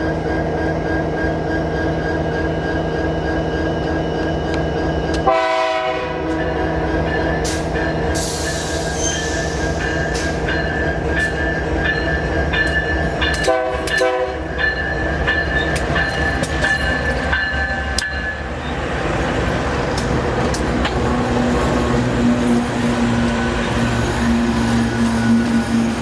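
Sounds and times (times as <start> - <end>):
locomotive engine hum and rumble: 0.0 - 26.0.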